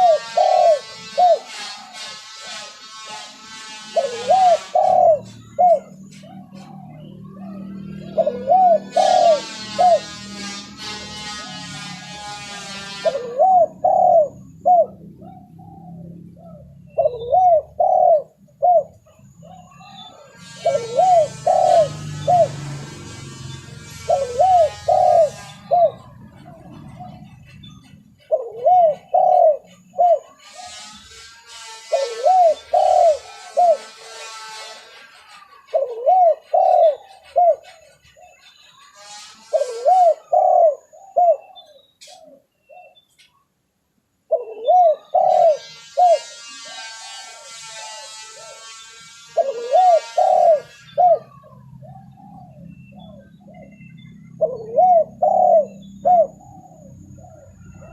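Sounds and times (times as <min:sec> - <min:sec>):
higher-pitched bird chirping: 0:00.0 - 0:34.6, 0:44.3 - 0:57.9
dove cooing: 0:00.0 - 0:43.0, 0:44.3 - 0:57.9.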